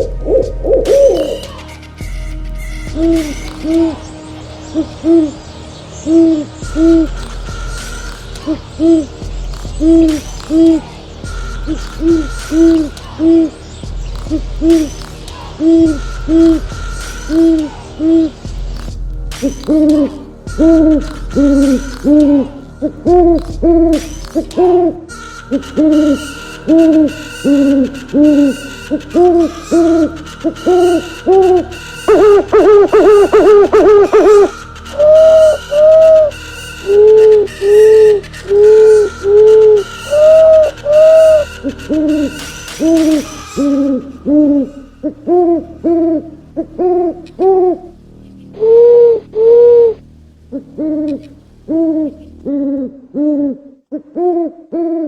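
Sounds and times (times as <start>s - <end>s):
owl hooting: 0.0s - 55.0s.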